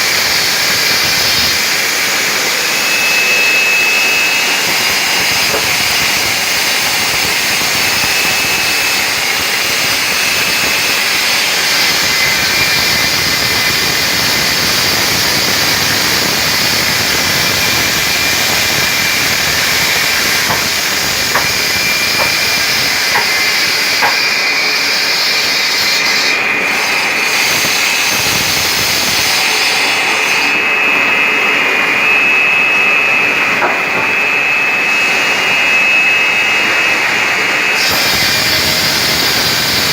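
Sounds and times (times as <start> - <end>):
stone-cutting machine whining: 0.0 - 39.9.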